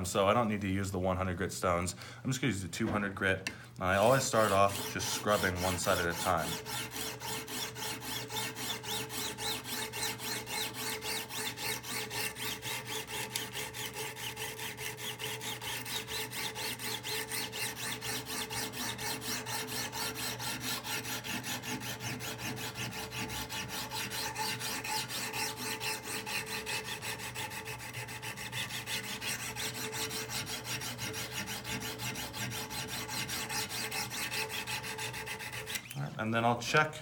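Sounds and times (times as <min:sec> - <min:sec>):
sharpening stone rasping on blade: 0:04.3 - 0:36.0.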